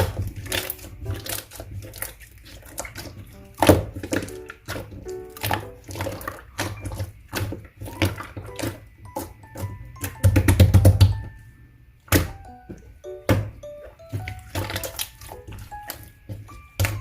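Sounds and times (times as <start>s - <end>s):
slime squishing and popping: 0.0s - 11.3s, 12.1s - 17.0s
background music with light melody: 0.0s - 17.0s.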